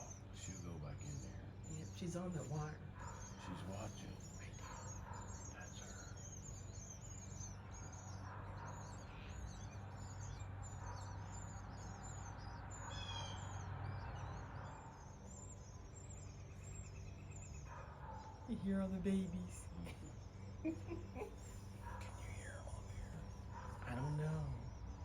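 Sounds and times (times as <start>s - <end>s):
nestling birds chirping: 0.0s - 25.0s
steady low hum: 0.0s - 25.0s.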